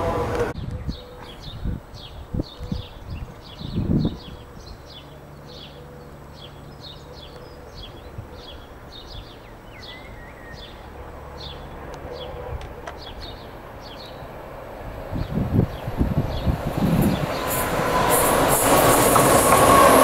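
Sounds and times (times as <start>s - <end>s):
electric train approaching: 0.0s - 1.5s, 2.8s - 20.0s.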